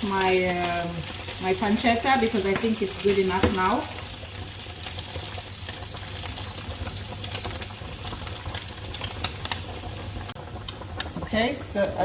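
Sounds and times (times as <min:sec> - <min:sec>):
pancetta sizzling in frying pan: 0:00.0 - 0:12.0.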